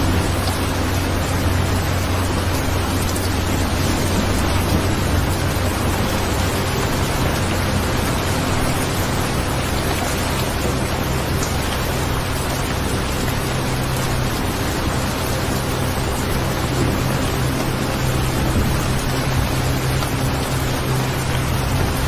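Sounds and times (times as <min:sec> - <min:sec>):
low rumble: 0:00.0 - 0:22.0
steady rain falling: 0:00.0 - 0:22.0.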